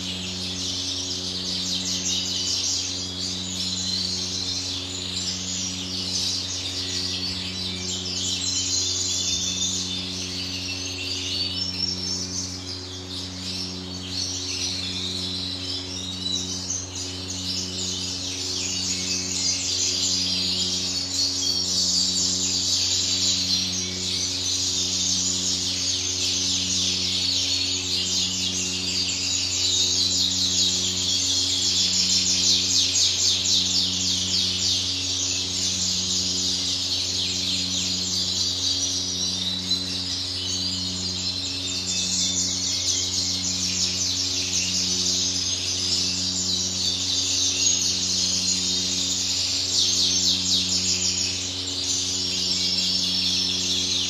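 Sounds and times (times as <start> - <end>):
canaries twittering and singing: 0.0 - 54.0
low pulsing hum: 0.0 - 54.0.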